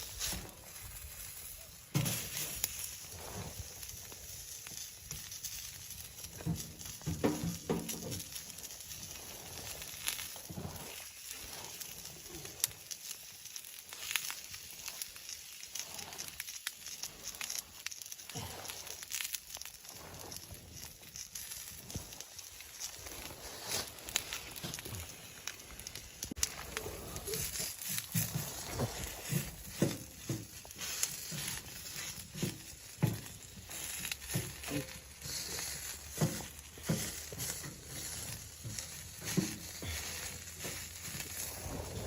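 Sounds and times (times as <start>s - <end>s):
crinkling and rustling handling: 0.0s - 42.0s.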